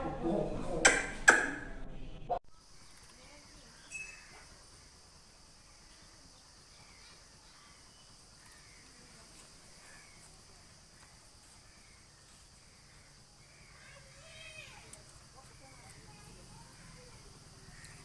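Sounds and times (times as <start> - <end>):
faint bird calls: 2.5 - 18.0.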